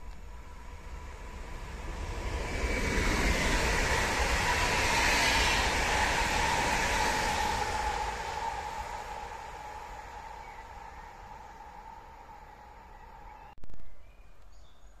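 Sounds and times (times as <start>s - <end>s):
train wheels rushing on rails: 0.0s - 13.4s
electric train whine: 0.0s - 13.6s.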